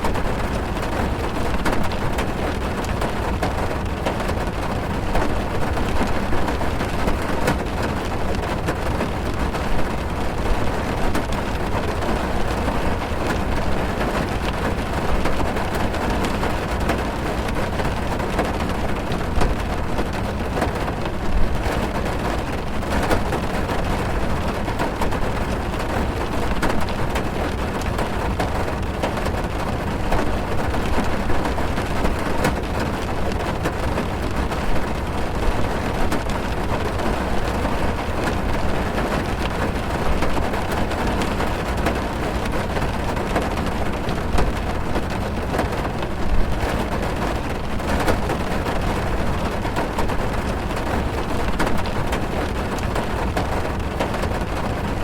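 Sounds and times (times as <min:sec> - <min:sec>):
heavy rain drumming on car roof: 0:00.0 - 0:55.0
raindrops ticking on car body: 0:00.0 - 0:55.0.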